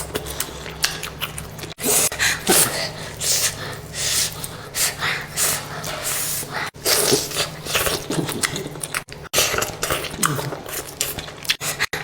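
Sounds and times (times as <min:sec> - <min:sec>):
person chewing and slurping: 0:00.0 - 0:12.0.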